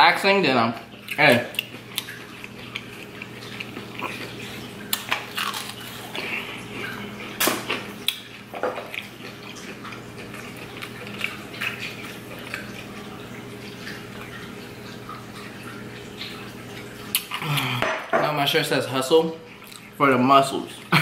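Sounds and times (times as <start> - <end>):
aquarium filter trickling water: 0.0 - 21.0
chewing fried food: 0.8 - 17.8, 19.5 - 20.0.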